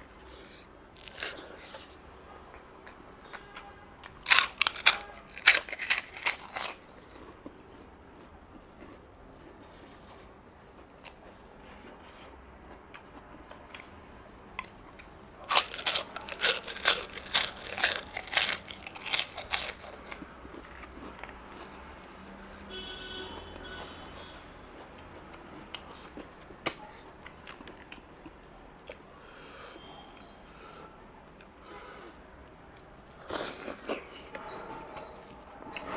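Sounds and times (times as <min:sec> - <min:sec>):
chewing crunchy food: 0:00.0 - 0:03.0, 0:04.0 - 0:30.3, 0:32.7 - 0:34.4.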